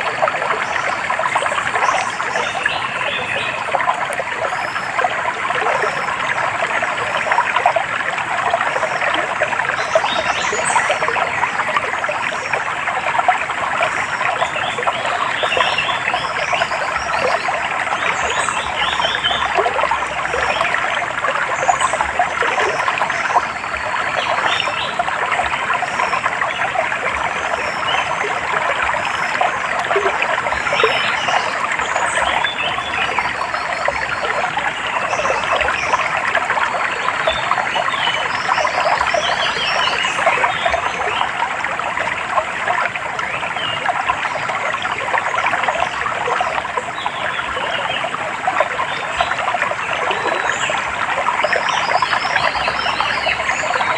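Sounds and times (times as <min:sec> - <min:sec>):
stream water trickling: 0:00.0 - 0:53.9.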